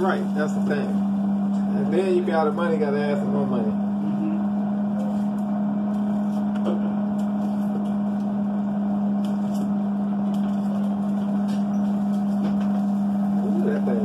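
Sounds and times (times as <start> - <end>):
air fryer oven fan humming: 0.0 - 14.0.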